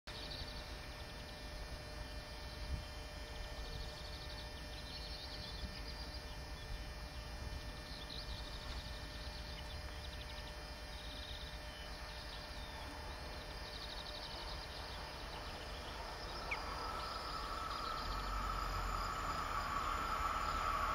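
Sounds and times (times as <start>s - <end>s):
small birds chirping: 0.1s - 2.9s, 3.6s - 20.9s
low outdoor background hum: 0.1s - 20.9s.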